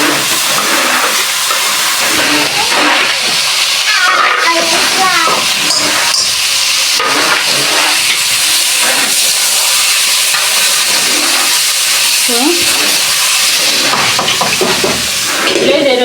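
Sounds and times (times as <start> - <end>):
tomatoes sizzling in oil: 0.0 - 16.0.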